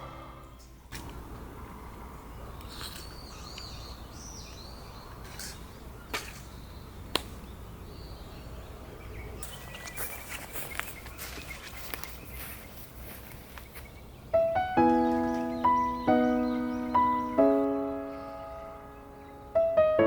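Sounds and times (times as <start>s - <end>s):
bird chirps: 2.2s - 20.0s.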